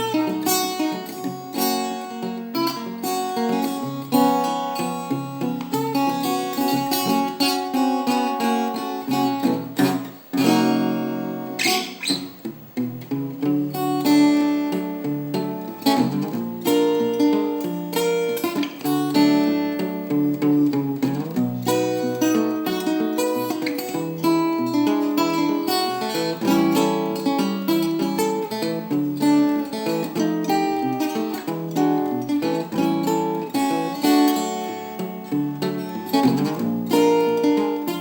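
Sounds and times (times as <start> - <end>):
fingerstyle guitar picking: 0.0 - 38.0.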